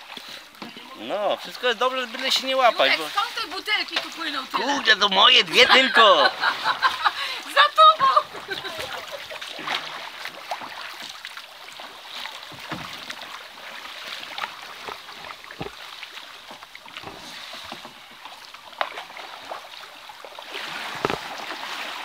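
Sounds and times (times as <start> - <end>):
paddles splashing in water: 0.0 - 22.0
water rushing along a hull: 0.0 - 22.0.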